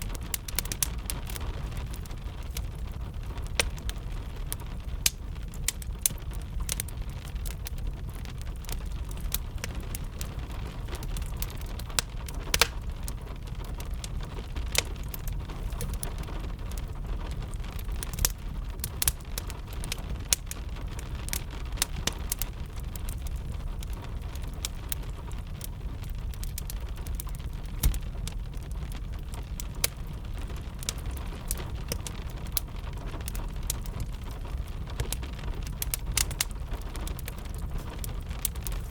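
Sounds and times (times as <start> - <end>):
soft hiss of rain: 0.0 - 38.9
wood fire crackling: 0.0 - 38.9.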